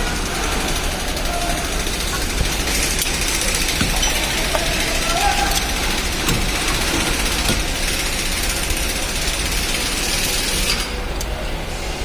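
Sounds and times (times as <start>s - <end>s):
mechanical running noise: 0.0s - 11.1s.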